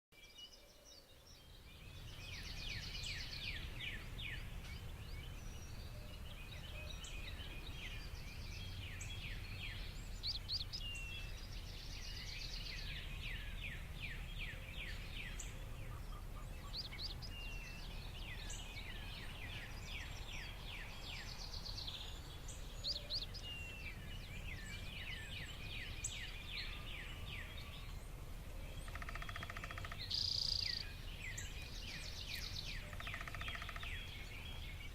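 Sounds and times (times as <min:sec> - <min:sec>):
songbirds chirping and trilling: 0:00.2 - 0:34.9
low wind rumble: 0:01.2 - 0:34.9.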